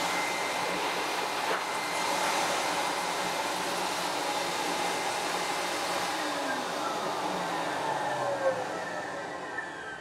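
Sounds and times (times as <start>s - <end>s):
pet dryer blowing air: 0.0s - 10.0s.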